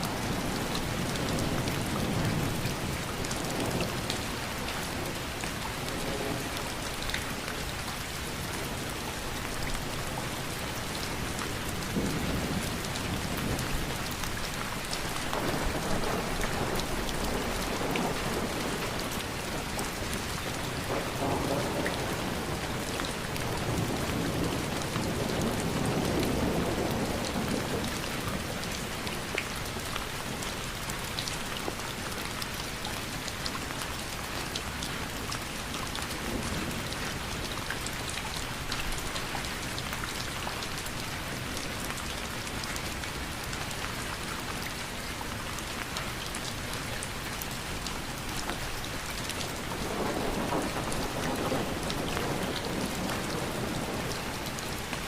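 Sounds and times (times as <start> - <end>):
rain drops pattering: 0.0 - 55.0.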